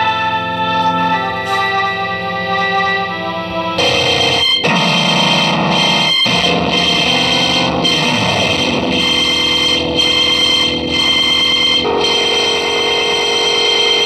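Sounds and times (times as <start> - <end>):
distorted electronic noise music: 0.0 - 14.0.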